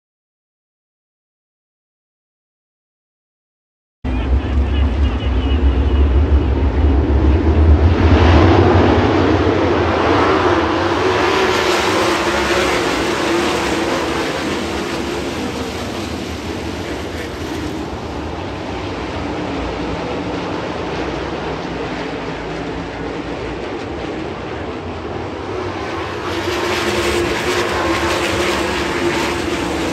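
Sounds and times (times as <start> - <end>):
race car engines at full throttle: 4.1 - 29.9.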